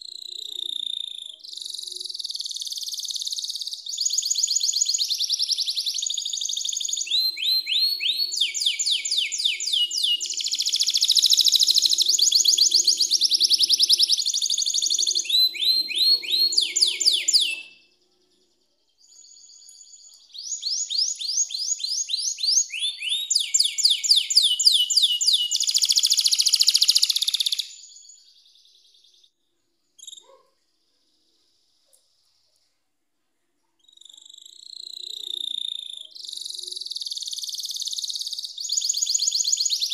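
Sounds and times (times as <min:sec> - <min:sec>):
canary singing rolling trills: 0:00.0 - 0:29.3, 0:30.0 - 0:32.5, 0:33.8 - 0:39.9.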